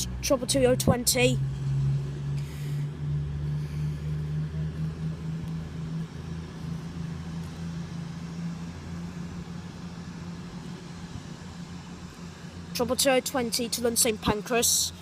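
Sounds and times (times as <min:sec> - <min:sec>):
train diesel engines droning: 0:00.0 - 0:15.0.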